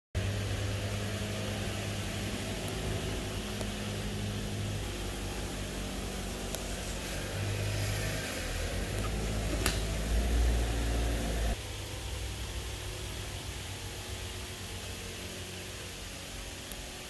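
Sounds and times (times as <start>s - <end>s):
constant hiss: 0.2s - 17.0s
low hum: 0.2s - 17.0s.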